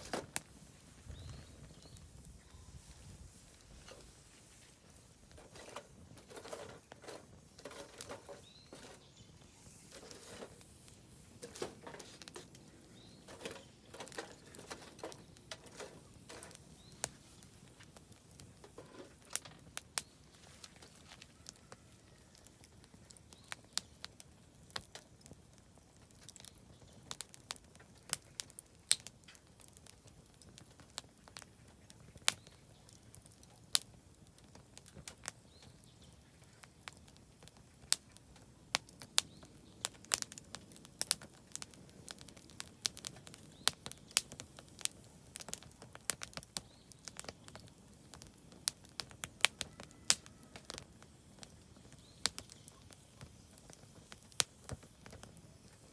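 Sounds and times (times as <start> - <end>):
campfire crackling and popping: 0.0 - 55.9
low steady hiss: 0.0 - 55.9.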